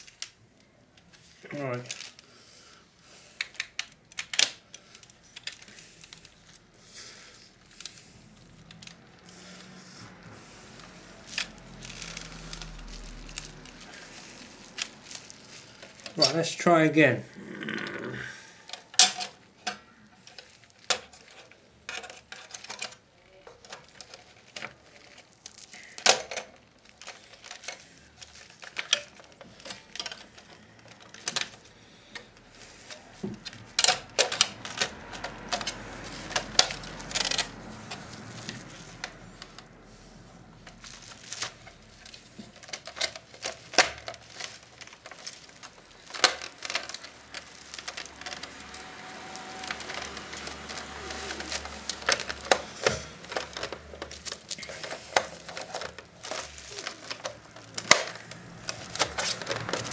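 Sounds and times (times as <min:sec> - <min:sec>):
plastic rubbing: 0:00.0 - 0:59.9.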